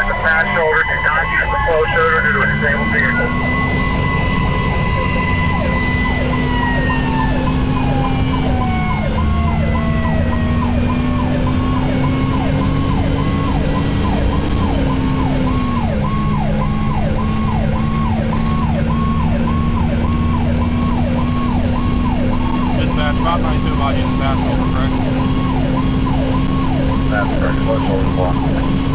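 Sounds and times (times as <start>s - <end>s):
fire engine siren cycling: 0.0s - 28.9s
second siren tone sliding down: 0.0s - 28.9s
truck engine drone: 0.0s - 28.9s.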